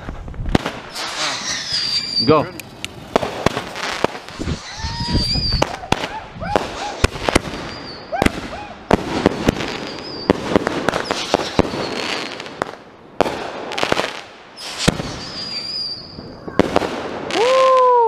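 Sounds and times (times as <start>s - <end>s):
fireworks bangs: 0.0s - 18.0s
firework whistles: 0.8s - 8.8s, 9.4s - 12.5s, 14.6s - 17.9s.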